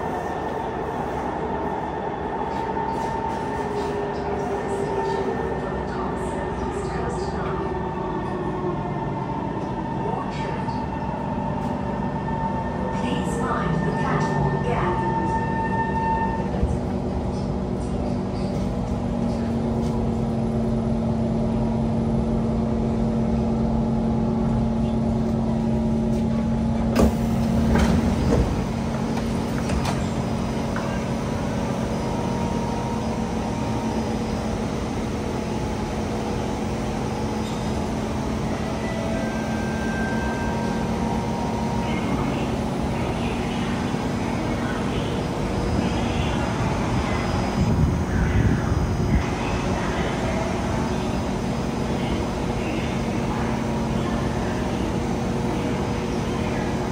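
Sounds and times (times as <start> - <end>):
train rumbling in tunnel: 0.0 - 56.9.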